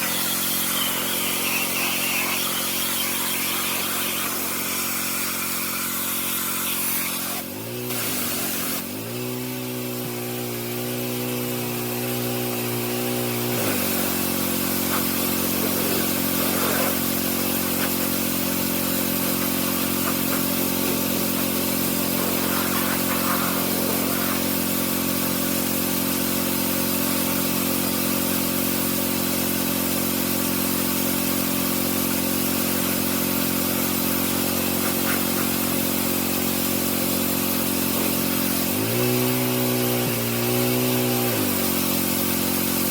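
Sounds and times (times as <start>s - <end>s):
spray hiss: 0.0s - 8.9s, 13.5s - 40.6s
pressure washer engine running: 0.0s - 42.9s.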